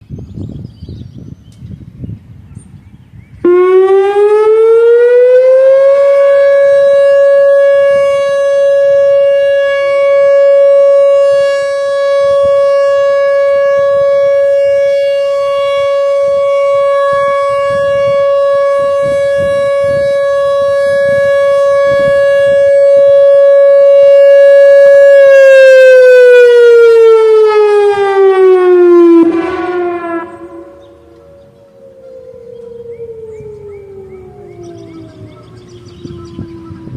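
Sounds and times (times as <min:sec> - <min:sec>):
outdoor warning siren steady tone: 0:03.2 - 0:36.9.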